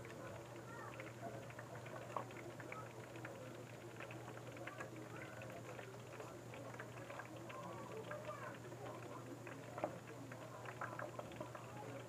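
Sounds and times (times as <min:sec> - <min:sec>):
chicken frying in sizzling oil: 0:00.0 - 0:12.0.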